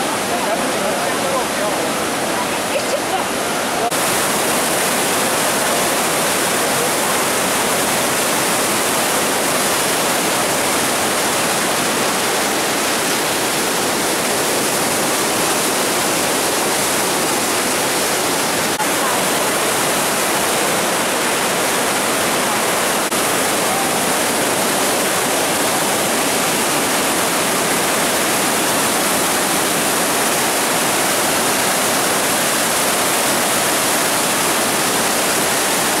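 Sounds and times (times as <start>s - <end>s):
waterfall crashing: 0.0s - 36.0s.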